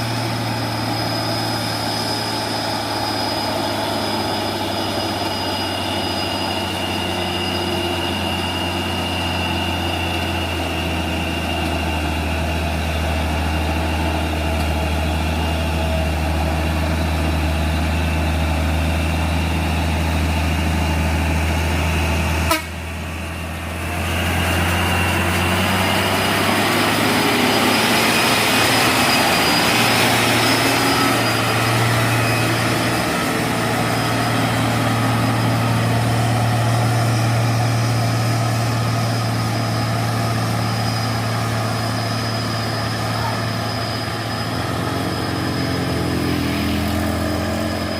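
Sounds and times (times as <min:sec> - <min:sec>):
diesel truck engine droning: 0:00.0 - 0:47.9
loud noisy engine: 0:00.0 - 0:47.9.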